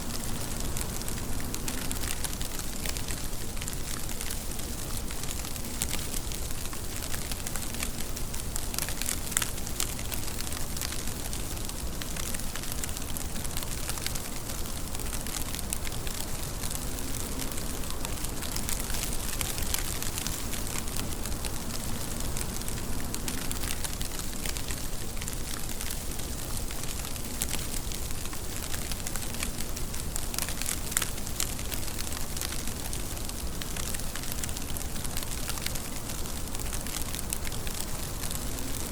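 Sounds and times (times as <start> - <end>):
raindrops ticking on surface: 0.0 - 38.9
steady rain: 0.0 - 38.9.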